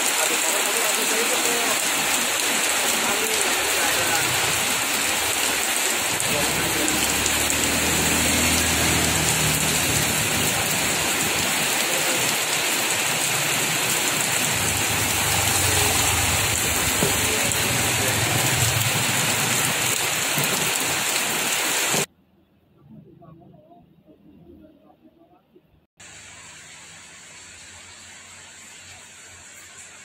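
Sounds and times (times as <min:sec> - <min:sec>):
heavy rain falling: 0:00.0 - 0:22.1, 0:26.0 - 0:30.0.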